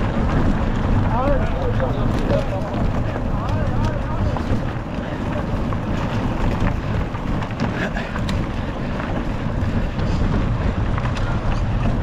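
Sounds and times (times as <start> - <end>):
bike clicks and rattles: 0.0 - 12.0
wind buffeting microphone: 0.0 - 12.0.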